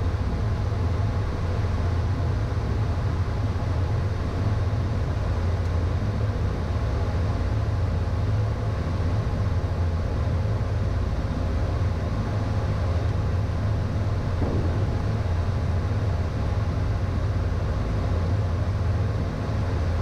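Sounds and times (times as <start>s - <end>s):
faint steady whine: 0.0s - 20.0s
jet engines and airflow rumble: 0.0s - 20.0s.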